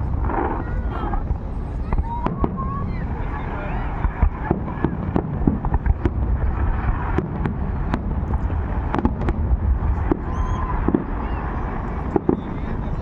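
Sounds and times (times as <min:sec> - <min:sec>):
constant low rumble: 0:00.0 - 0:13.0
fireworks bangs and crackles: 0:00.0 - 0:13.0.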